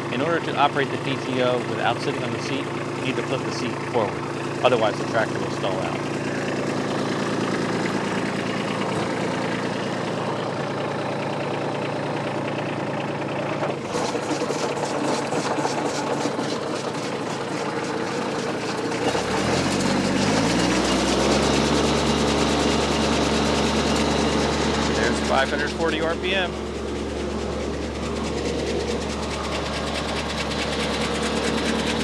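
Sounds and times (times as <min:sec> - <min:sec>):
diesel tractor engine idling: 0:00.0 - 0:32.0
wood chipper spinning: 0:00.0 - 0:32.0.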